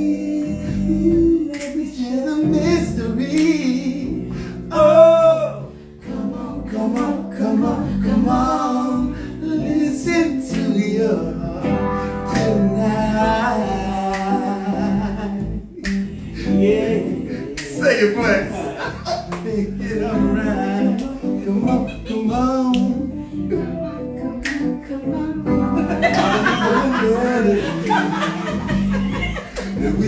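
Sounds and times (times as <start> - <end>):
electric keyboard chords: 2.4 - 30.0
voices singing in harmony: 3.8 - 30.0.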